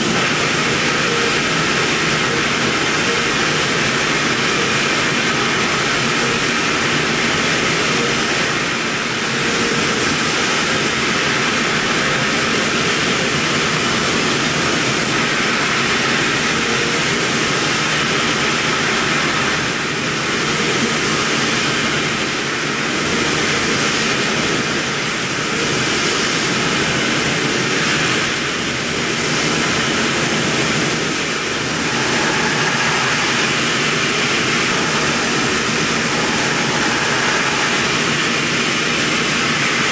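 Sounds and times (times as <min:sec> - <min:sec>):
milling machine whirring: 0:00.0 - 0:39.9.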